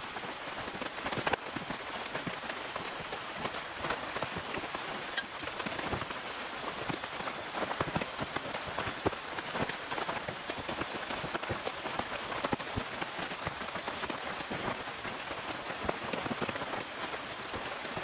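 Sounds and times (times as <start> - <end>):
rain on tent fabric: 0.0 - 18.0.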